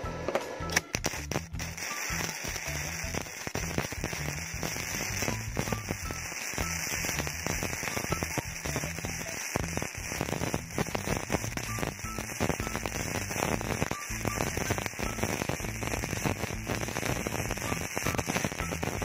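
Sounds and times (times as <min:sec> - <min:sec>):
welder arc crackling: 0:00.7 - 0:19.0.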